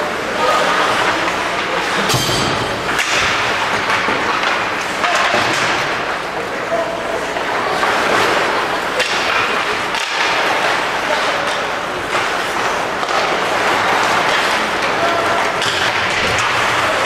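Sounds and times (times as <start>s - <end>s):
crowd noise: 0.0s - 17.0s
skates scraping ice: 2.8s - 17.0s.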